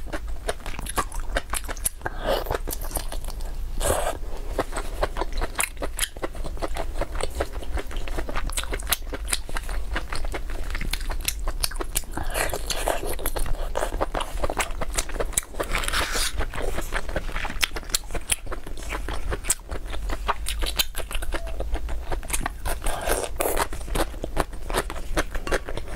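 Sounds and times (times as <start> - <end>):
chewing with sticky clicks: 0.0 - 25.9.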